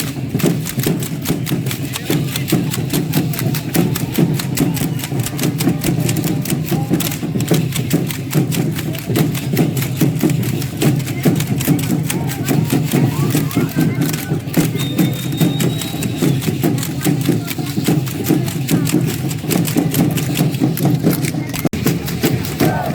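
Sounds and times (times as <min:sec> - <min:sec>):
crowd rumble: 0:00.0 - 0:22.9
rhythmic percussion beats: 0:00.0 - 0:22.9.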